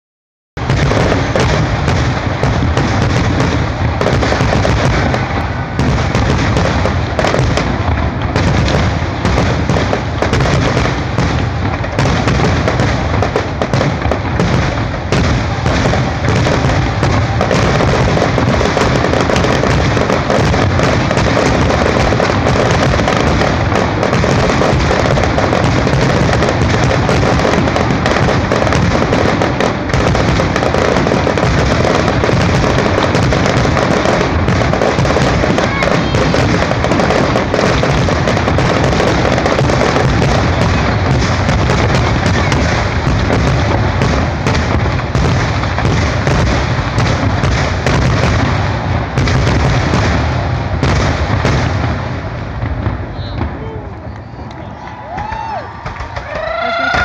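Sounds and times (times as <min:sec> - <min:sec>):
firework shells booming: 0:00.6 - 0:57.0.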